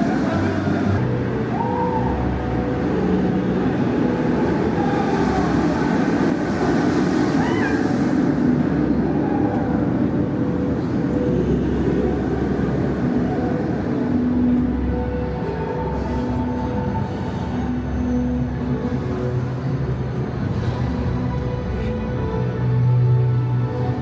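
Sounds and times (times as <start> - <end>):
theme park crowd din: 0.0 - 24.0.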